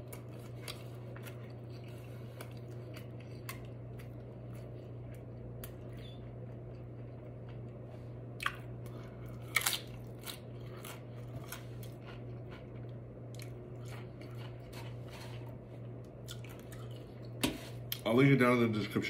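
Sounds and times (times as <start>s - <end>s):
chewing food: 0.0s - 18.0s.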